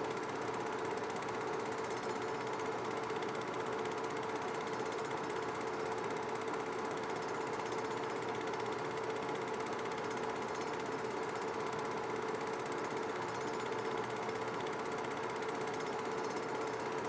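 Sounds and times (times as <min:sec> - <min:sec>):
projector mechanical clatter: 0:00.1 - 0:17.0.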